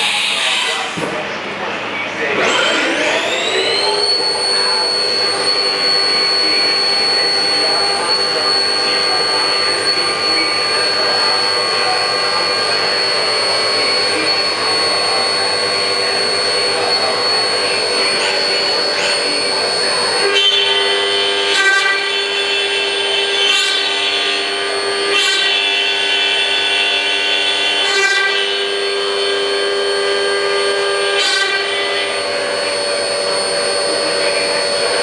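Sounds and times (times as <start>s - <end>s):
metal cutting noise: 0.0s - 35.0s
spindle high-pitched whine: 0.0s - 35.0s.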